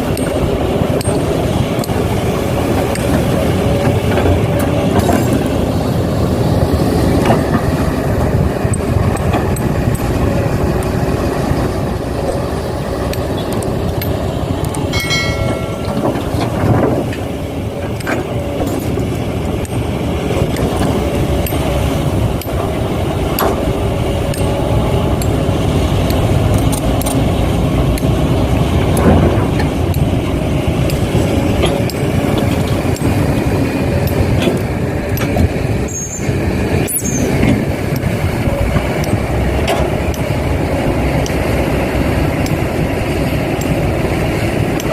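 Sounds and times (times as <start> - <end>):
heavy machinery running: 0.0 - 44.9.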